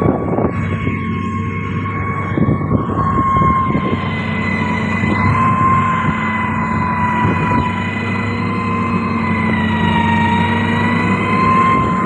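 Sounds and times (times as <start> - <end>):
diesel engine running: 0.0 - 12.0
high wavering whine: 0.0 - 12.0.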